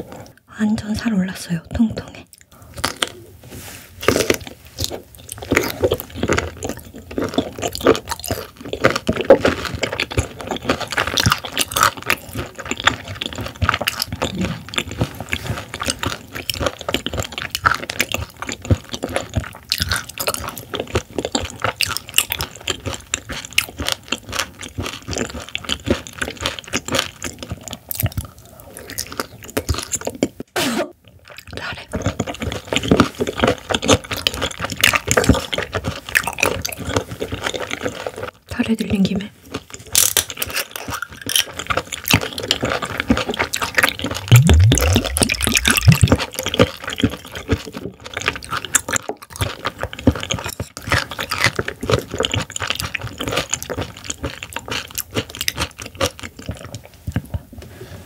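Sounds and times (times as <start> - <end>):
close chewing with wet mouth clicks: 4.0 - 57.6.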